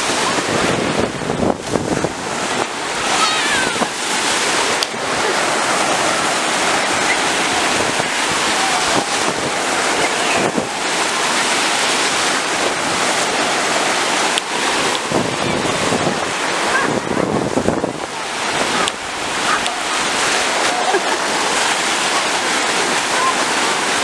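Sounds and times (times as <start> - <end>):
sea surf breaking: 0.0 - 24.0.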